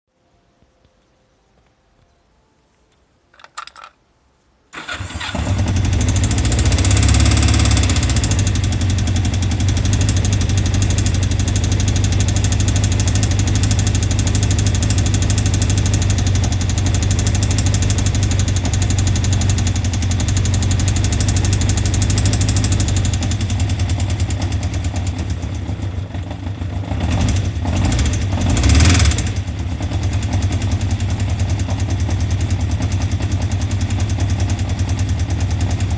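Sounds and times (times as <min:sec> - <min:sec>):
car engine cranking and idling: 0:04.7 - 0:35.9.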